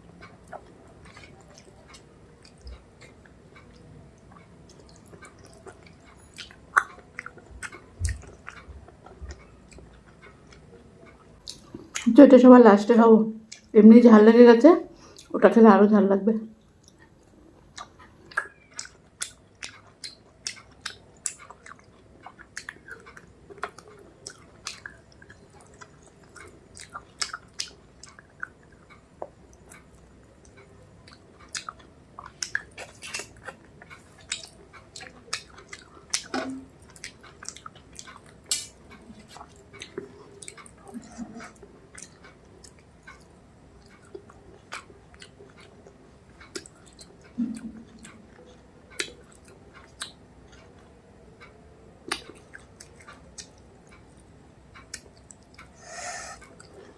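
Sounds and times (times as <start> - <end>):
person chewing food: 0.0 - 12.1, 13.5 - 13.7, 15.0 - 15.4, 16.6 - 56.9.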